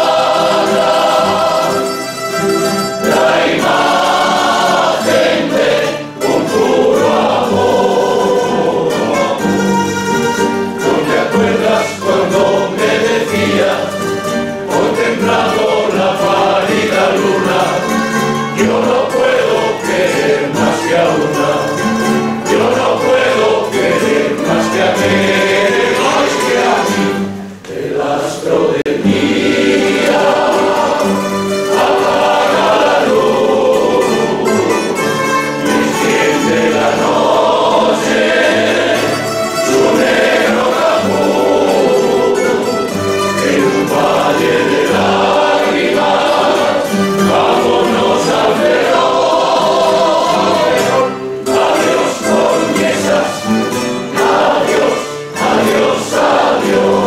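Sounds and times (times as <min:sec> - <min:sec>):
plucked guitars and lutes: 0:00.0 - 0:27.7, 0:29.0 - 0:57.0
accordion: 0:00.0 - 0:57.0
choir singing: 0:00.0 - 0:57.0.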